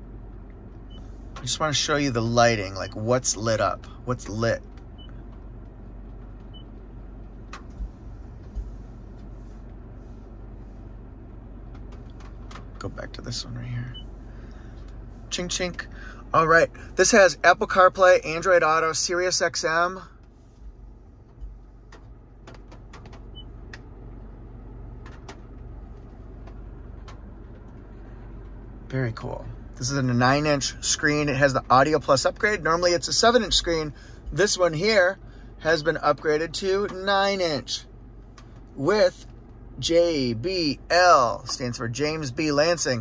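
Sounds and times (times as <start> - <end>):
car cabin hum: 0.0 - 43.0.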